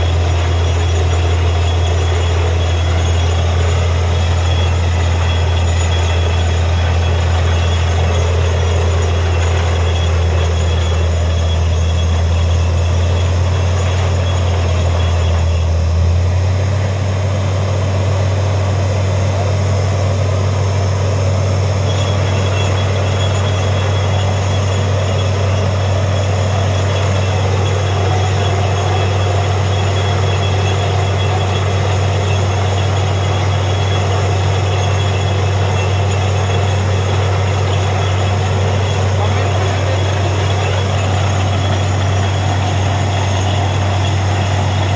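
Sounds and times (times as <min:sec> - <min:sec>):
drilling rig engine hum: 0:00.0 - 0:44.9.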